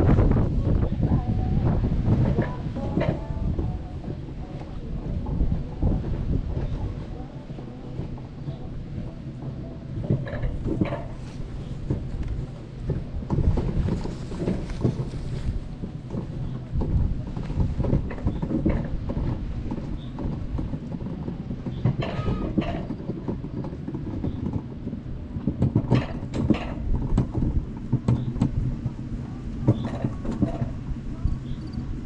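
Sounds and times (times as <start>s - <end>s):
coaster sled wheels rumbling on rail: 0.0s - 32.0s
sled clicking and clattering: 0.0s - 32.0s.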